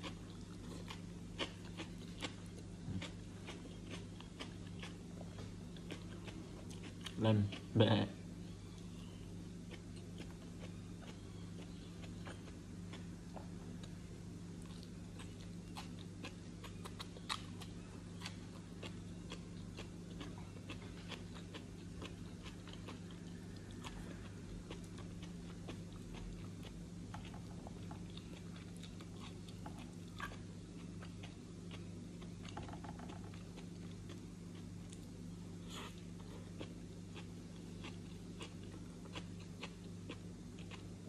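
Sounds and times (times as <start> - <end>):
person chewing crunchy vegetables: 0.0 - 7.8, 8.7 - 41.0
low room hum: 0.0 - 41.0.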